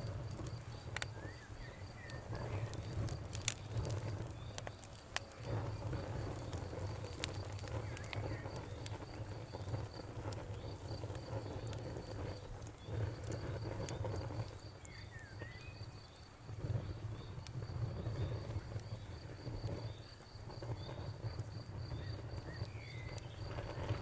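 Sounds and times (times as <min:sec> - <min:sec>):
campfire crackling: 0:00.0 - 0:24.0
crickets chirping: 0:00.0 - 0:24.0.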